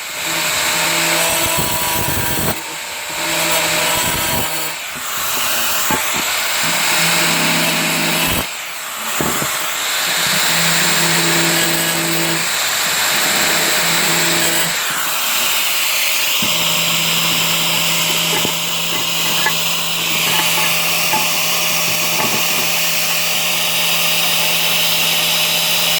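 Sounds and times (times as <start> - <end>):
angle grinder grinding tile: 0.0 - 25.9.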